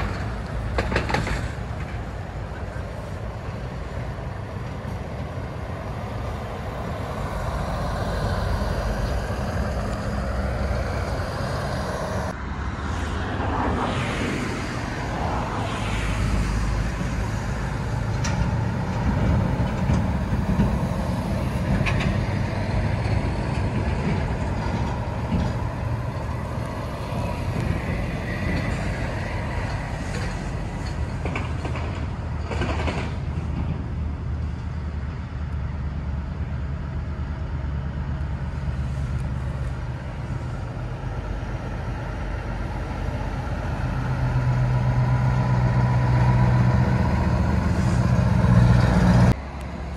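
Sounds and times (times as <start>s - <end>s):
diesel lorry traffic rumble: 0.0s - 49.9s
lorry engine approaching: 0.0s - 49.9s.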